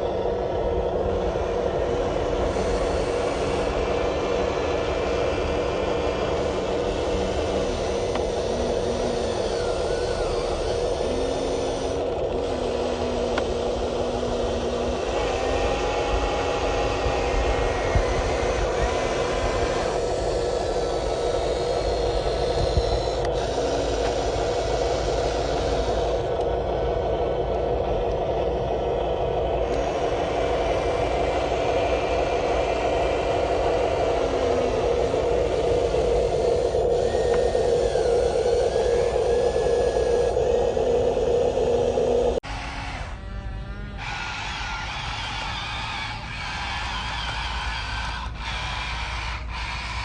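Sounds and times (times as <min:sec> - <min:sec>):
faint steady hum: 0:00.0 - 0:50.0
toy gear motors whirring: 0:00.0 - 0:50.0.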